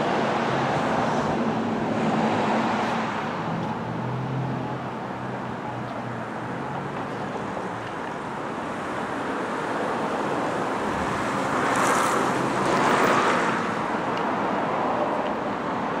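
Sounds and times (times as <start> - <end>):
vehicle tyres passing on road: 0.0 - 16.0.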